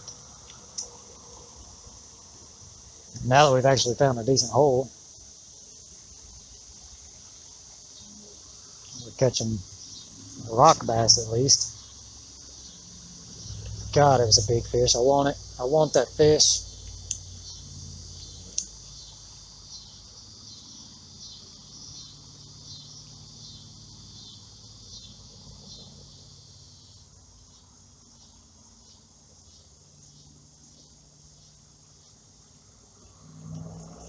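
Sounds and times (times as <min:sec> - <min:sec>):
insects and crickets chirping: 0:00.0 - 0:34.0.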